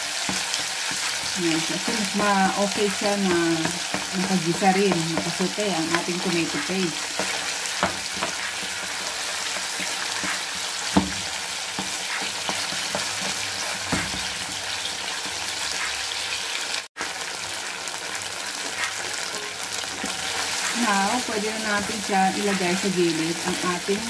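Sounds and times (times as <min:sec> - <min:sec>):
food sizzling in a frying pan: 0:00.0 - 0:24.0
spatula scraping a pan: 0:00.1 - 0:16.0, 0:18.5 - 0:23.0.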